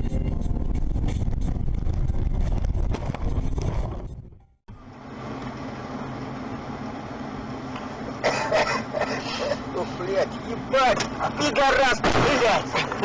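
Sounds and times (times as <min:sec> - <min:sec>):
car engine and road rumble: 0:00.0 - 0:13.0
car engine hum: 0:00.0 - 0:13.0.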